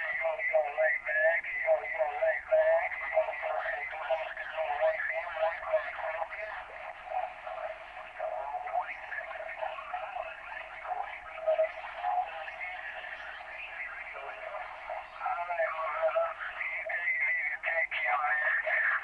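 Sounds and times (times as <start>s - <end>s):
garbled voices over cb radio: 0.0s - 19.0s
radio static: 0.0s - 19.0s.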